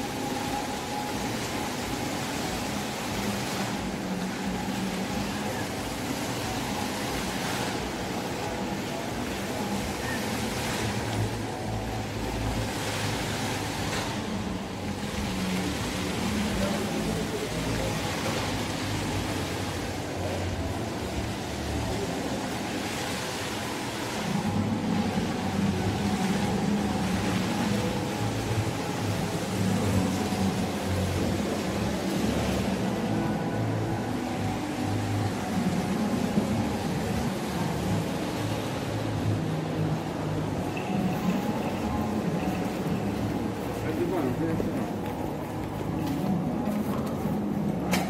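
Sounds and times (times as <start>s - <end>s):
mall background rush: 0.0s - 48.0s.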